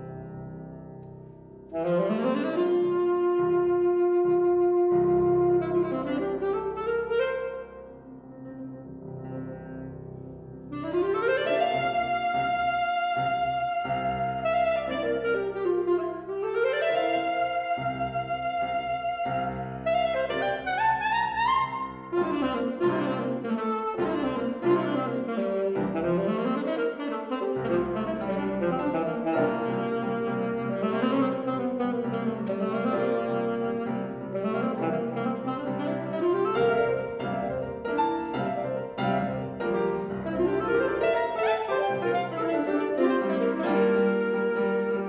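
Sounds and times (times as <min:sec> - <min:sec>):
piano accompaniment: 0:00.0 - 0:45.0
alto saxophone fast runs: 0:01.7 - 0:08.0, 0:10.7 - 0:45.0.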